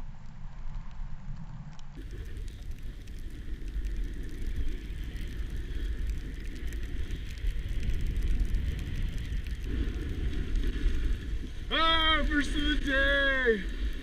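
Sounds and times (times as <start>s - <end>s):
wind buffeting microphone: 0.0s - 14.0s
skis sliding over snow: 0.1s - 14.0s.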